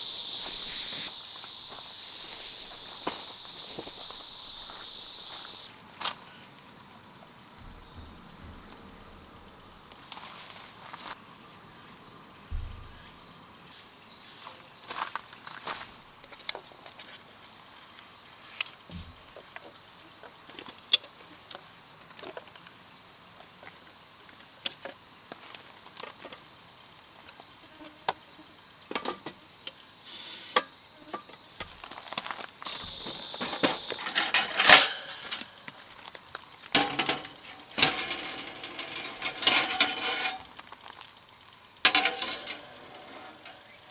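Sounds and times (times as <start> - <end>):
insects buzzing: 0.0 - 43.9.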